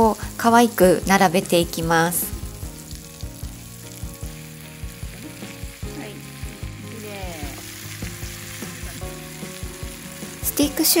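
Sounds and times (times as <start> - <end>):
background music with steady beat: 0.0 - 11.0
butter sizzling in a skillet: 0.0 - 11.0.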